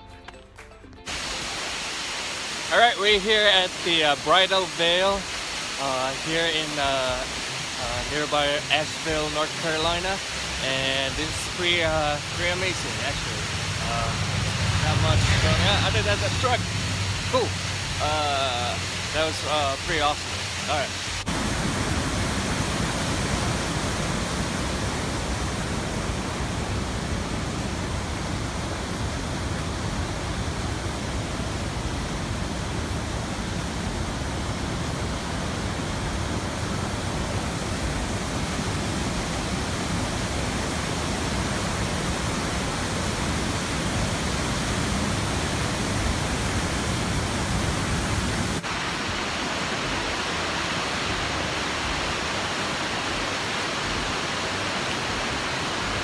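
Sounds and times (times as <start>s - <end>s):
waterfall rushing: 1.1s - 56.0s.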